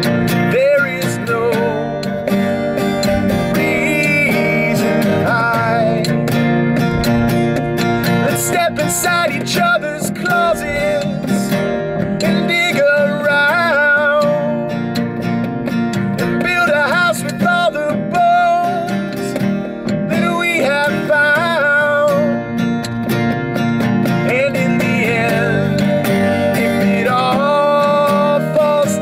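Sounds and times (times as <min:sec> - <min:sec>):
man singing: 0:00.0 - 0:06.4, 0:08.0 - 0:15.0, 0:16.2 - 0:22.5, 0:24.2 - 0:29.0
acoustic guitar strumming: 0:00.0 - 0:29.0.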